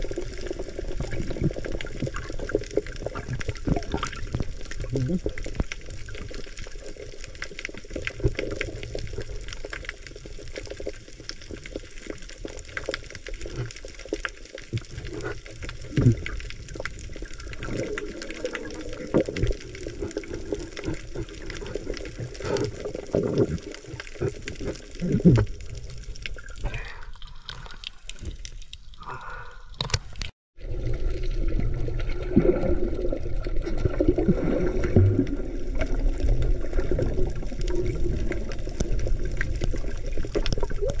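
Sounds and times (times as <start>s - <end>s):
underwater noise: 0.0s - 41.0s
small underwater clicks: 0.1s - 30.3s, 34.8s - 41.0s.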